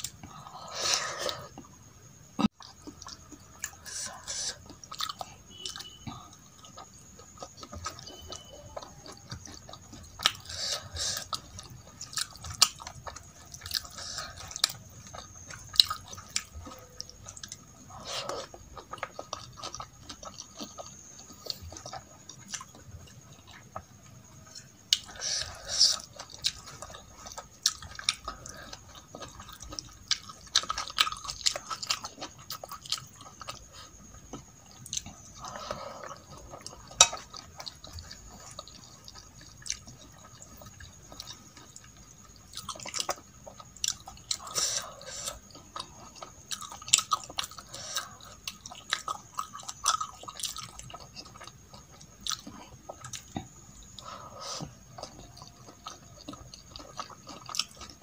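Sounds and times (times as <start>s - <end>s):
wet chewing and mouth sounds: 0.0s - 58.0s.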